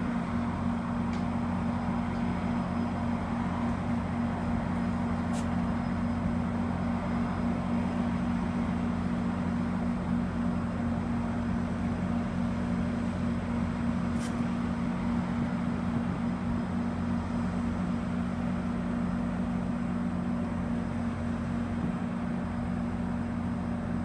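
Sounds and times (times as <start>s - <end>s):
idling train low hum: 0.0s - 24.0s.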